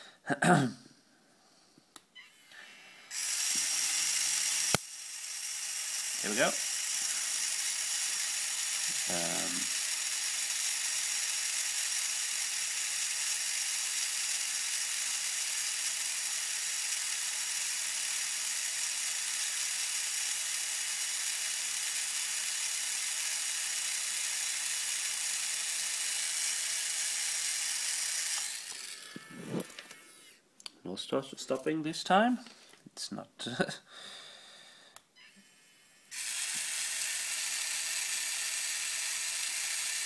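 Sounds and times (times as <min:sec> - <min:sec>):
small motor whirring: 0:02.2 - 0:30.4, 0:35.2 - 0:40.0.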